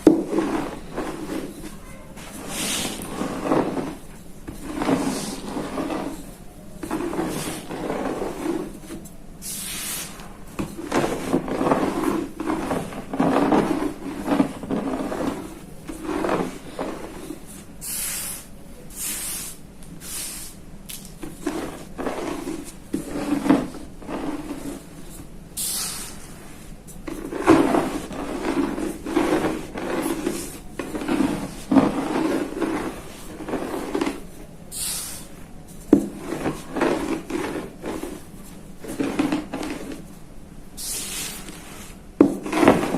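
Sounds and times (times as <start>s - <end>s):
rolling pin crushing chalk: 0.0s - 42.9s.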